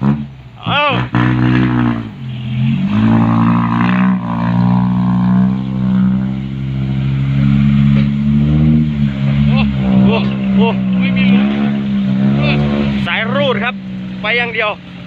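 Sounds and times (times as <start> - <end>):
diesel truck engine under throttle: 0.0 - 15.0.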